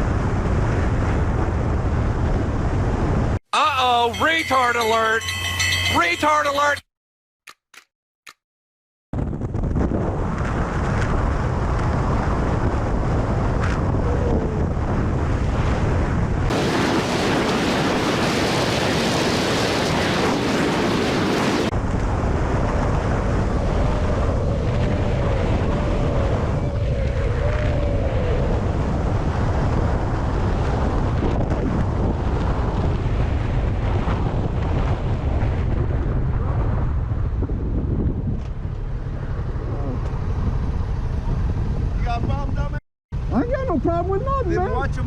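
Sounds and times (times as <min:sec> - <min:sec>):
car road and wind noise: 0:00.0 - 0:03.4, 0:09.2 - 0:45.0.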